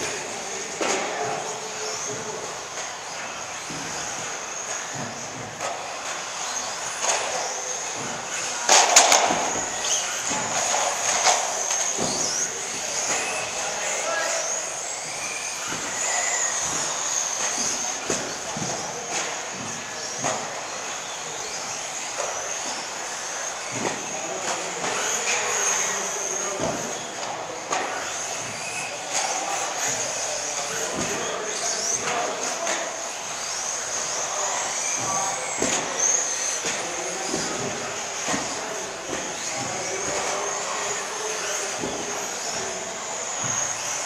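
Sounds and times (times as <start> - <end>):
electric rc car motor whine: 0.0 - 44.0.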